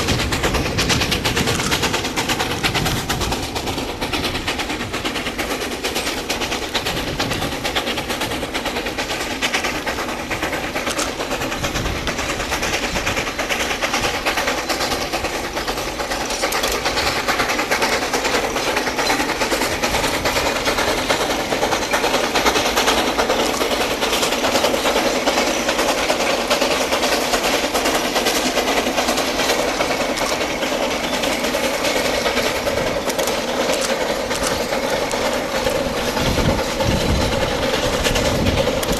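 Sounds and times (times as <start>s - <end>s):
steam train clattering: 0.0s - 38.9s.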